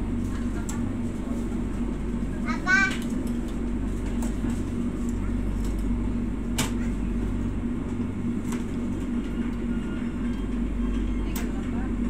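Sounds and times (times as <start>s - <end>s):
train coach mechanical hum: 0.0s - 12.0s.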